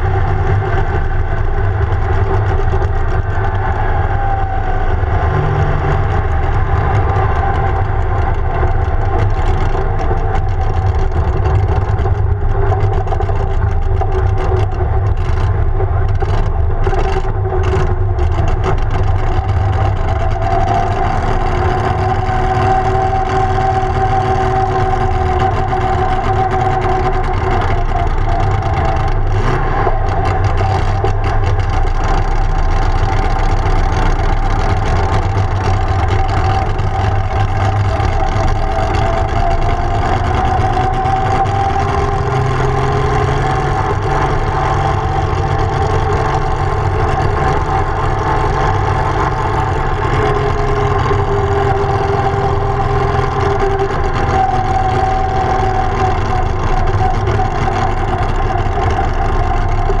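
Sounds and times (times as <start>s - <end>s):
dragster engine at low revs: 0.0s - 60.0s.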